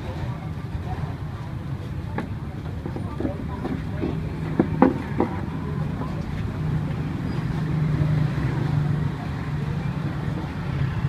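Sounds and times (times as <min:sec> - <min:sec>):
street traffic hum: 0:00.0 - 0:11.0.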